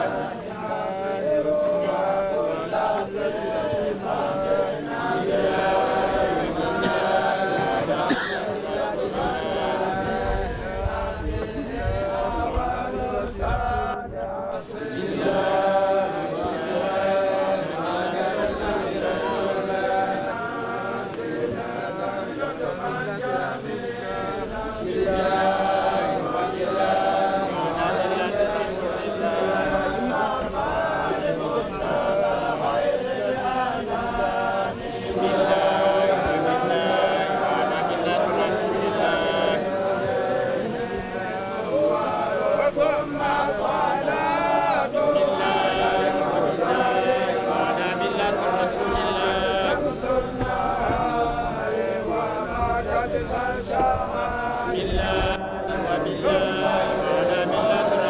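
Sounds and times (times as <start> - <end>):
voices chanting together: 0.0 - 58.0.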